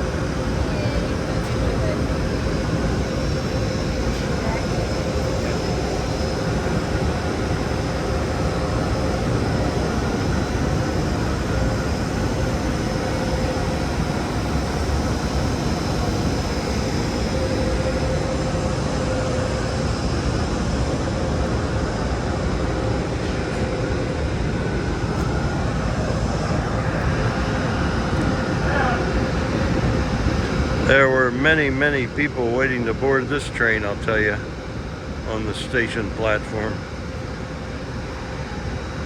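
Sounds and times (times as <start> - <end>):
locomotive cooling blowers whirring: 0.0 - 39.0.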